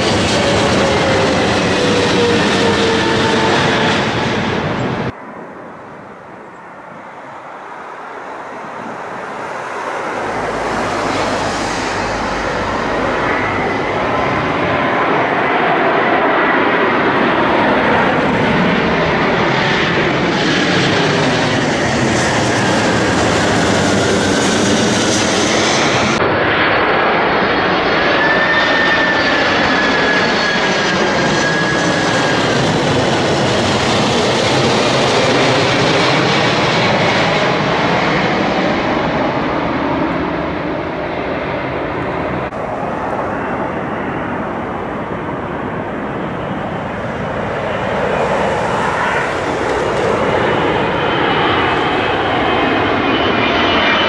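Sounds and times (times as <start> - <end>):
jet plane passing overhead: 0.0 - 54.0.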